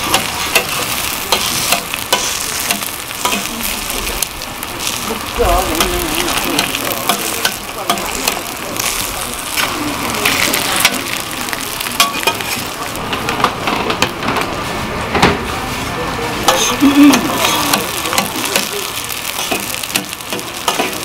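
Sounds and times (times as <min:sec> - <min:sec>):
pancakes sizzling on a griddle: 0:00.0 - 0:15.5, 0:16.4 - 0:21.0.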